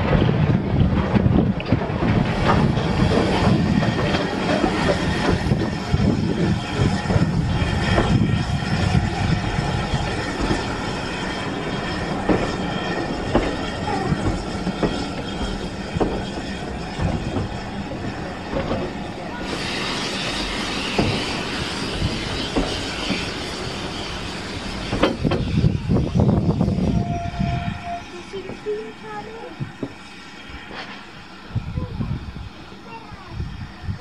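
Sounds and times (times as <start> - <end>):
steam train rolling past: 0.0 - 34.0
steam hiss: 2.0 - 34.0.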